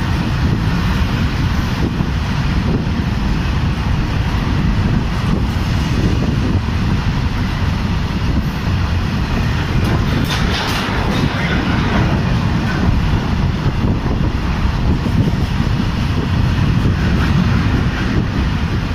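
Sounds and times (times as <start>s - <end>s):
freight train wheels rumbling: 0.0s - 18.9s.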